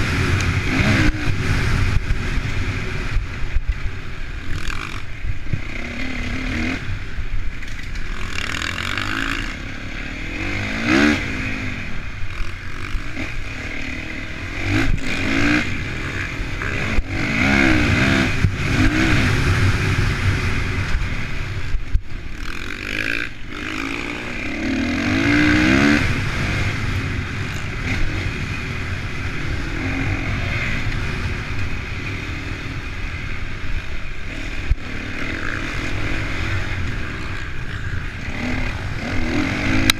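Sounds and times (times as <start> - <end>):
motorbike engine revving: 0.0 - 3.8, 7.7 - 39.9.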